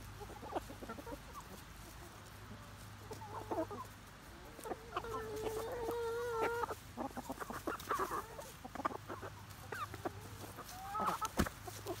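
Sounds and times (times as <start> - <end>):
young hens clucking: 0.0 - 12.0.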